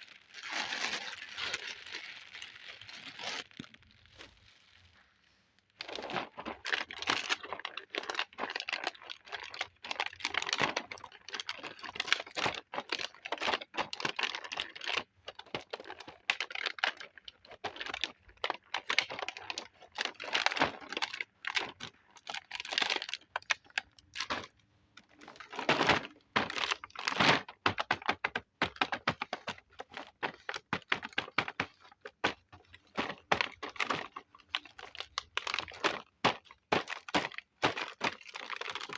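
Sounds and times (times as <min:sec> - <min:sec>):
plastic packaging crinkling: 0:00.0 - 0:38.9.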